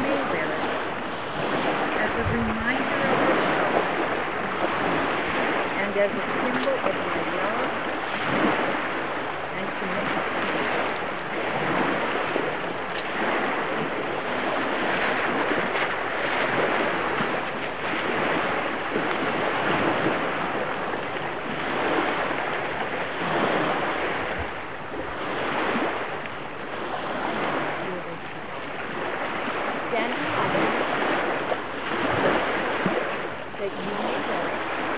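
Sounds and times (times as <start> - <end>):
lake waves washing in: 0.0 - 34.9.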